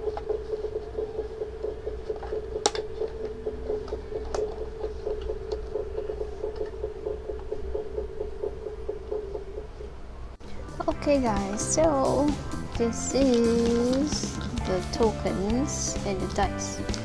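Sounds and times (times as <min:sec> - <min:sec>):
toy speaker playing drums: 0:00.0 - 0:09.8, 0:10.4 - 0:17.0.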